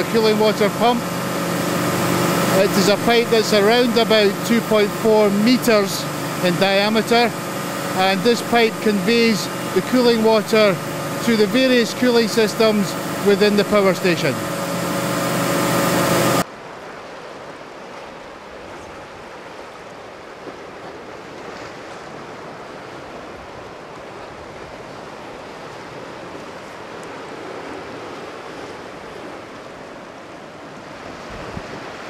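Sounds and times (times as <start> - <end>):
seawater rushing and churning: 0.0 - 32.0.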